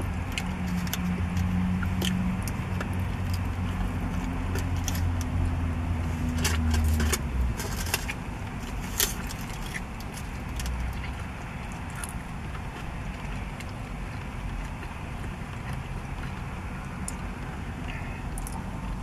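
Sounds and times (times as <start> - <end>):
low vehicle hum: 0.0 - 19.0
chewing and mouth clicks: 0.1 - 5.4, 9.0 - 19.0.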